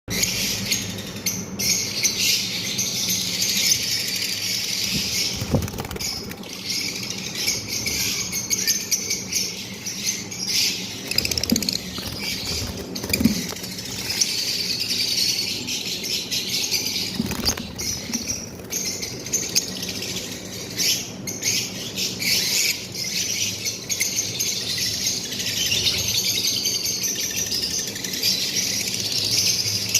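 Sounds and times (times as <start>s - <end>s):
lovebirds chirping and chattering: 0.1s - 29.9s.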